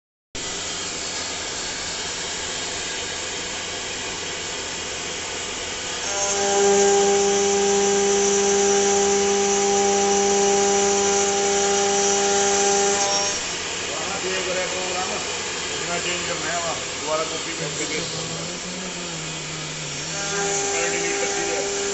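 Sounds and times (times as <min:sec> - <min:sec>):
lathe mechanical hiss: 0:00.4 - 0:21.9
steady whine: 0:00.4 - 0:21.9.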